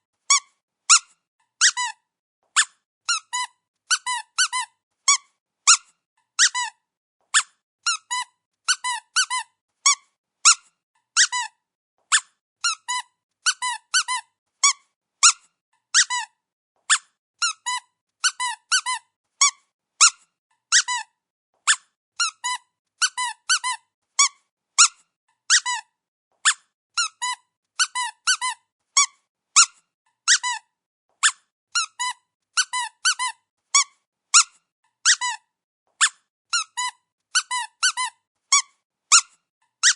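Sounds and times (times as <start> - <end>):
squeaky dog toy squeaking: 0.2 - 39.9.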